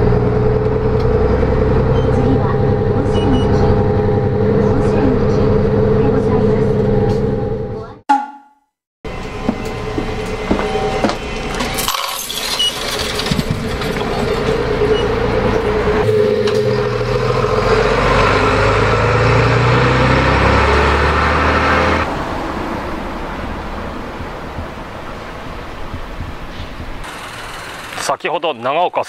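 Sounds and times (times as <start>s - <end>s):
bus engine rumbling: 0.0s - 8.0s, 9.1s - 28.5s
rattling bus interior: 0.0s - 8.0s, 9.1s - 28.2s
street hum: 0.0s - 8.0s, 9.1s - 29.0s.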